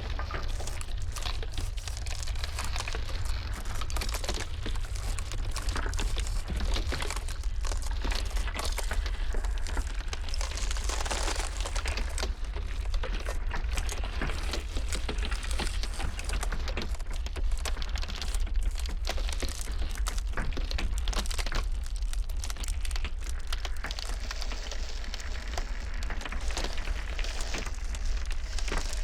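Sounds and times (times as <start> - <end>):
ice crackling and snapping: 0.0 - 29.0.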